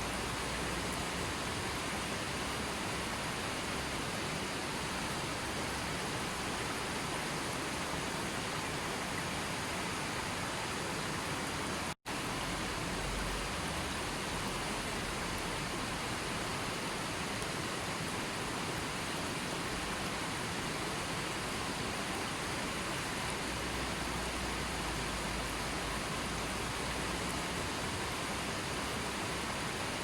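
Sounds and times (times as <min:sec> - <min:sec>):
rushing water hiss: 0:00.0 - 0:30.0.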